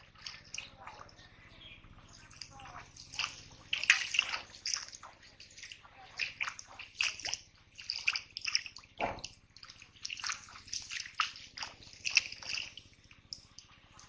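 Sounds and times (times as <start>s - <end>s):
splashing in shallow water: 0.0s - 1.3s, 2.0s - 14.0s.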